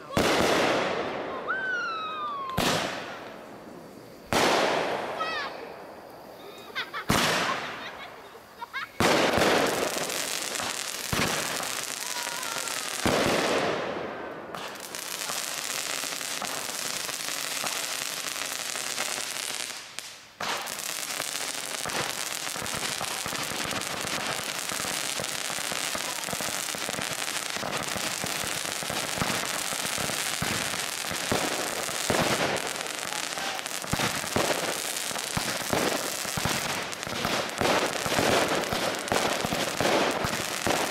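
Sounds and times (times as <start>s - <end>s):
fireworks loud bangs: 0.0s - 40.9s
fireworks rapid crackling pops: 0.0s - 40.9s.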